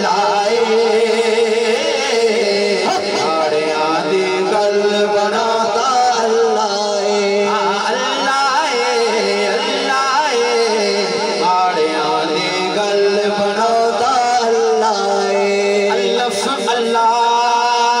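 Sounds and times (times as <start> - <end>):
person singing devotional song: 0.0 - 18.0.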